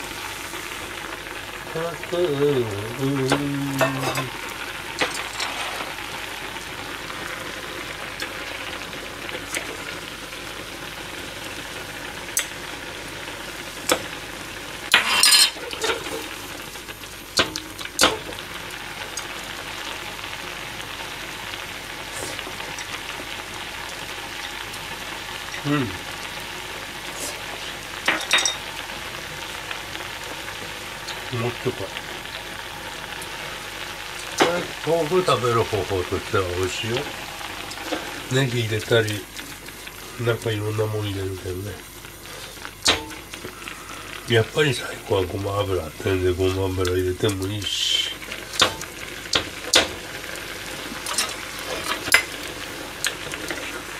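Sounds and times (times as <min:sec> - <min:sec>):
bubbling sizzle in a saucepan: 0:00.0 - 0:53.9.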